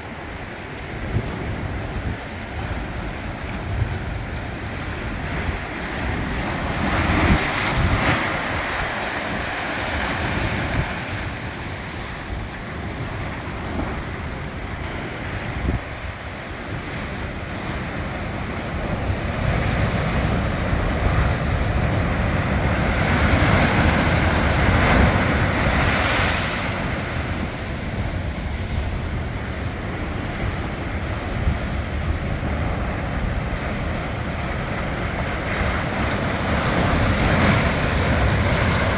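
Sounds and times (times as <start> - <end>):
ocean waves crashing: 0.0 - 38.9
wind buffeting microphone: 0.0 - 38.9.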